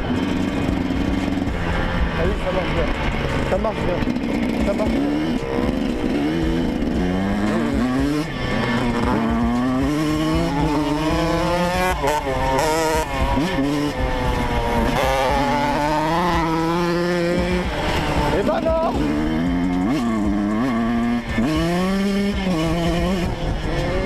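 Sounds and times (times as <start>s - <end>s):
two-stroke engine revving: 0.0s - 24.0s.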